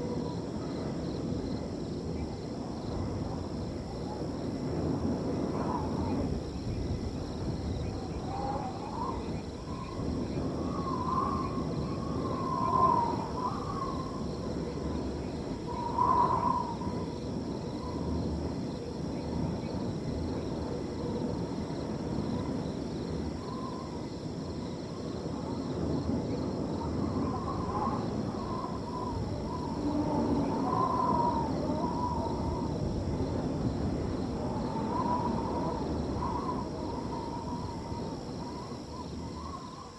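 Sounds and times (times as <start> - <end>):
crickets trilling: 0.0 - 39.9
wind rushing and whistling: 0.0 - 39.9.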